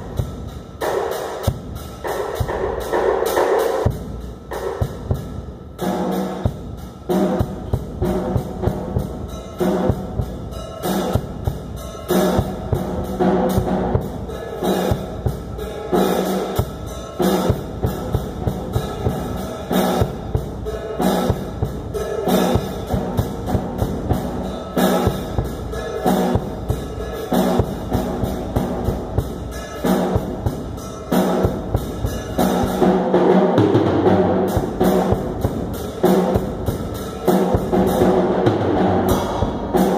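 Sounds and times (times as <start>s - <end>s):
drum kit playing rhythm: 0.0s - 39.9s.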